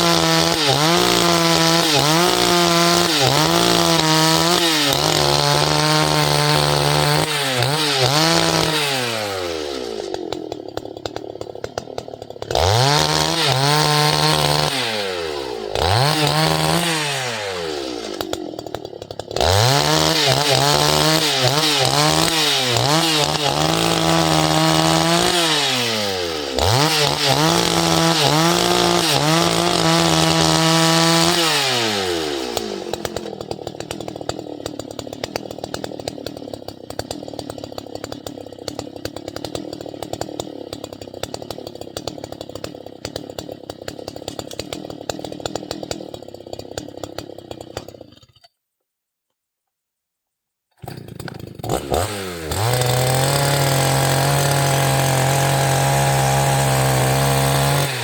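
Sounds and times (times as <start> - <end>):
chainsaw revving: 0.0 - 48.2, 50.8 - 58.0.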